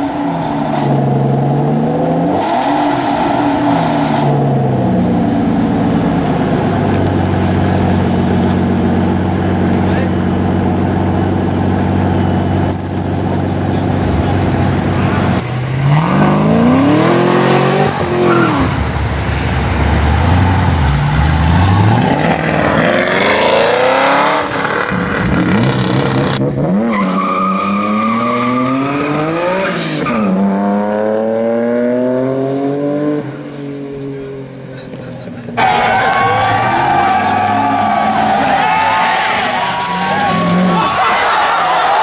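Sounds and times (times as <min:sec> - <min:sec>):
sports car engines revving: 0:00.0 - 0:42.0.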